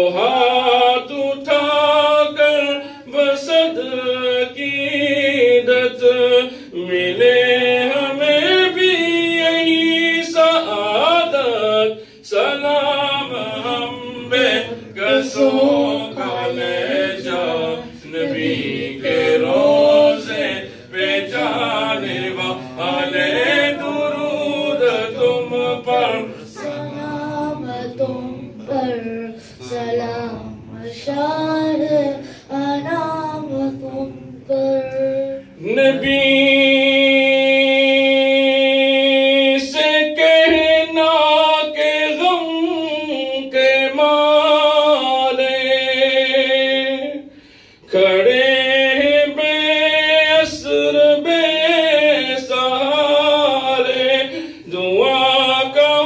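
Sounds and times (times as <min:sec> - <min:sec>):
man singing unaccompanied: 0:00.0 - 0:56.0.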